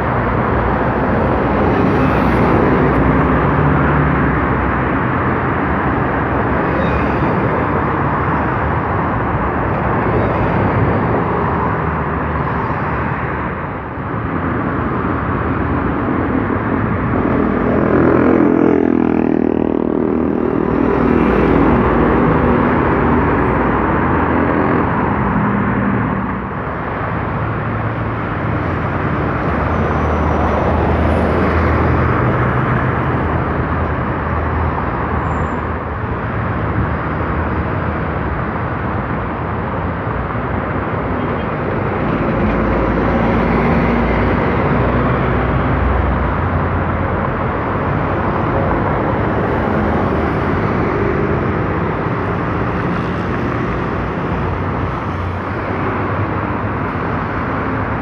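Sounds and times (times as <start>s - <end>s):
bus passing by: 0.0s - 58.0s
road traffic: 0.0s - 58.0s.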